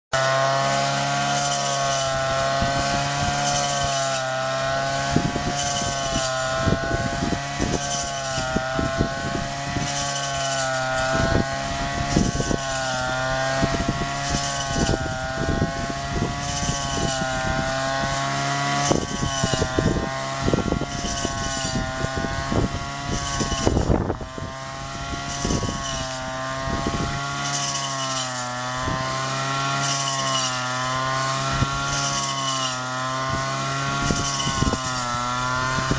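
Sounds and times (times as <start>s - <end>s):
brush cutter engine running: 0.1s - 35.9s.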